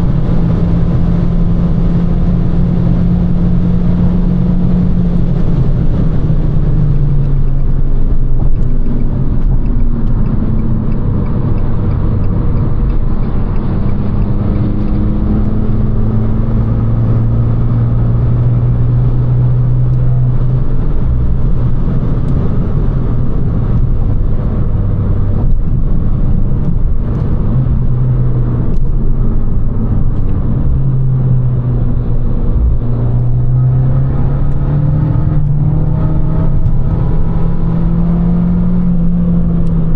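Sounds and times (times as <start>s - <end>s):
car engine cruising: 0.0s - 39.9s
road and tyre noise: 0.0s - 39.9s.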